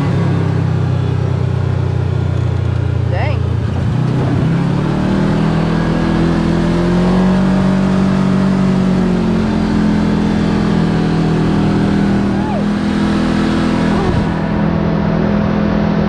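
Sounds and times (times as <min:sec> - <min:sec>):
utility vehicle engine running: 0:00.0 - 0:16.0.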